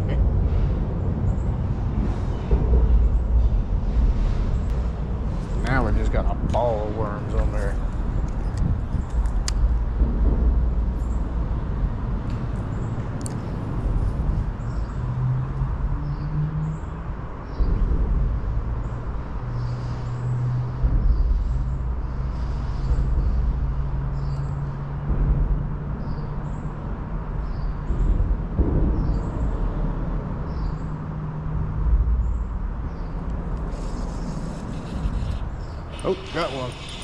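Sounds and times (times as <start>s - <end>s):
distant road traffic hum: 0.0s - 37.0s.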